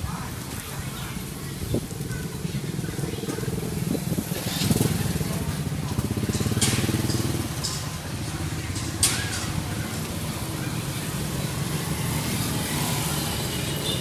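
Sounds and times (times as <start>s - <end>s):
street traffic: 0.0s - 14.0s
small motorbike engine running: 0.3s - 14.0s.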